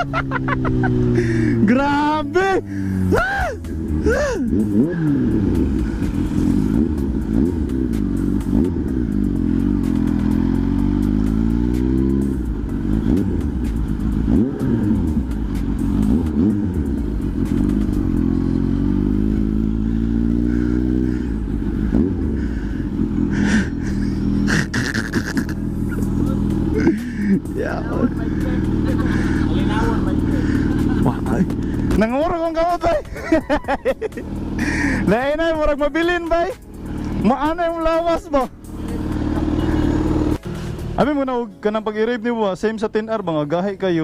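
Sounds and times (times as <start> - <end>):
motorcycle engine accelerating: 0.0 - 41.4.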